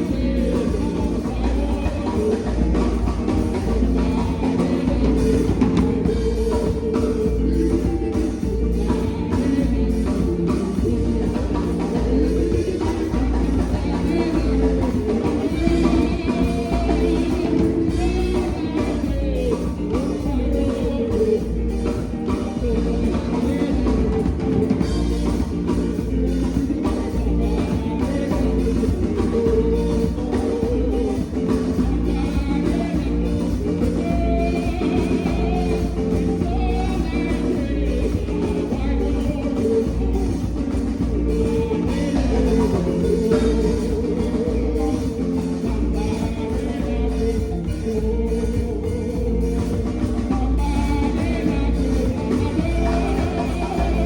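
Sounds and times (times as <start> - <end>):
rock song with singing: 0.0 - 54.0.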